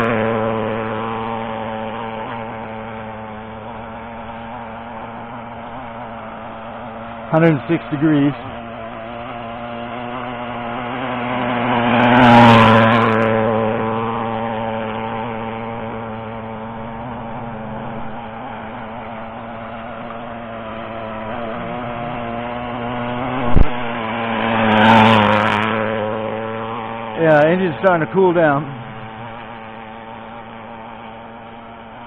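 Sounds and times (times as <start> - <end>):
model boat engine at full speed: 0.0 - 32.0.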